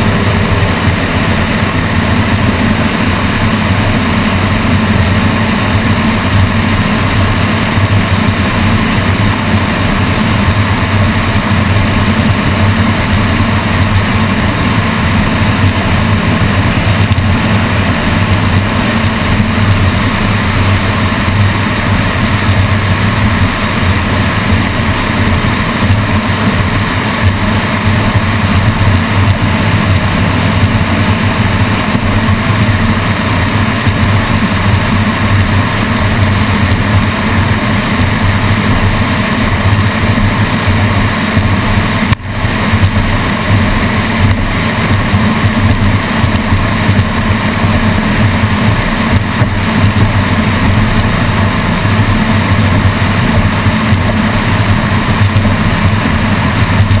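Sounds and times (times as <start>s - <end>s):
powerboat engines running at speed: 0.0s - 57.0s
wind: 0.0s - 57.0s.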